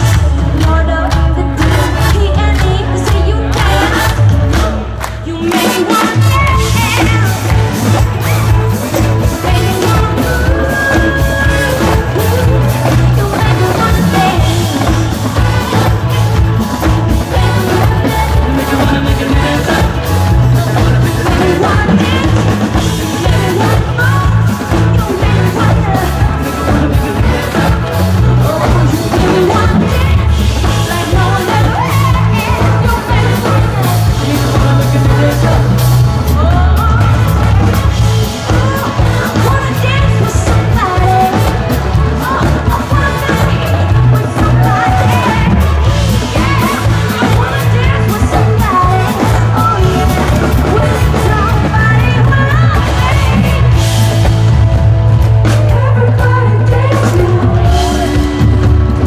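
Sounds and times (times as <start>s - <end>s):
live pop-rock music: 0.0s - 59.0s
woman singing: 0.0s - 59.0s.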